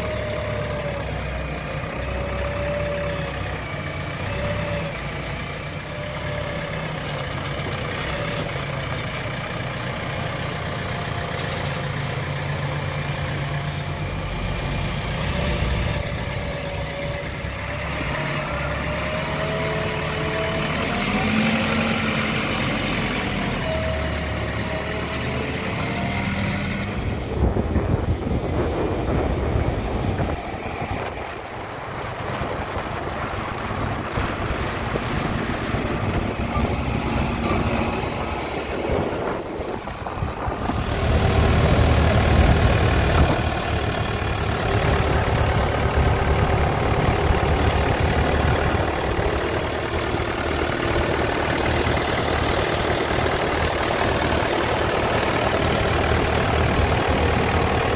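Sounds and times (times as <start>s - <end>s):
diesel engine running with whine: 0.0s - 57.9s.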